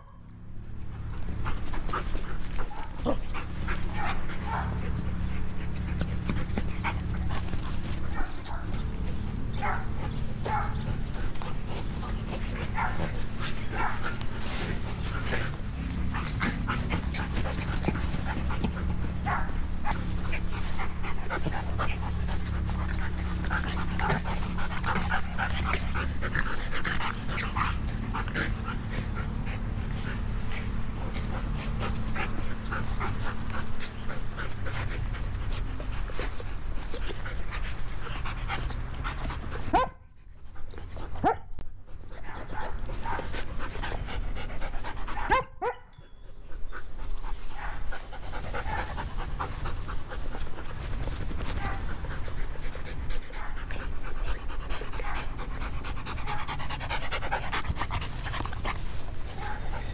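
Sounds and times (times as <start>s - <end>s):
steady low hum: 0.0s - 59.9s
dogs panting: 0.6s - 59.9s.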